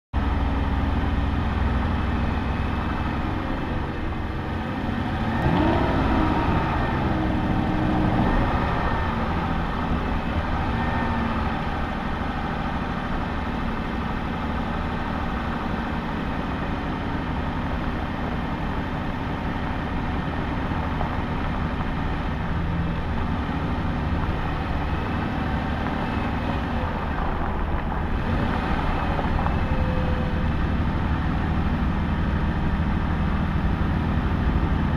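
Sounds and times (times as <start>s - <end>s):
car engine running: 0.2s - 34.9s.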